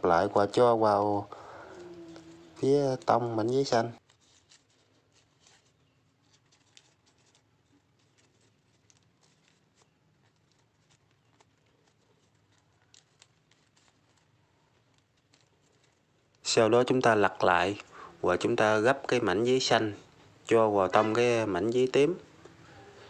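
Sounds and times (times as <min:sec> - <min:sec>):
paper being folded: 0:00.1 - 0:23.0
paper crackles: 0:00.5 - 0:23.0.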